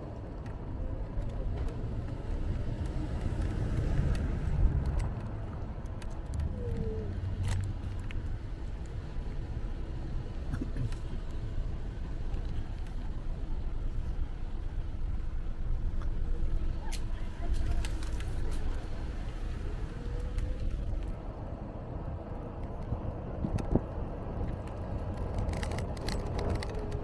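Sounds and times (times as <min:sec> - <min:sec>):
road and wind rumble: 0:00.0 - 0:27.0.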